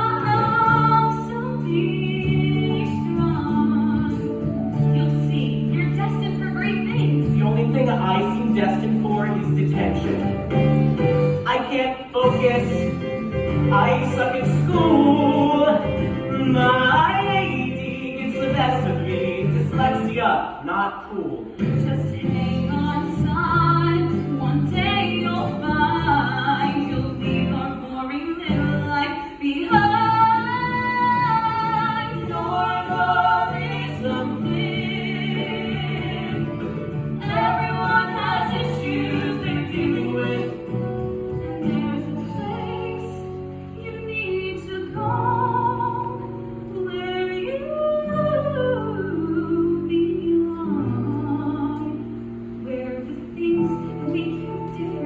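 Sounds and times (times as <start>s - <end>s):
singing over instrumental accompaniment: 0.0s - 46.8s.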